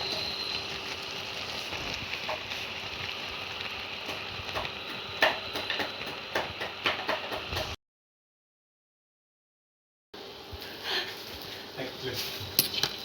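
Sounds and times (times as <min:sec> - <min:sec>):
frying sizzle with crackles: 0:00.0 - 0:07.8, 0:10.2 - 0:13.0.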